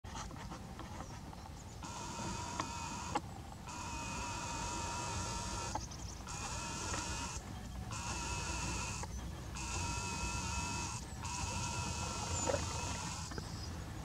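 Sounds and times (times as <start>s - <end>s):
camera zoom motor whining: 1.8s - 13.6s.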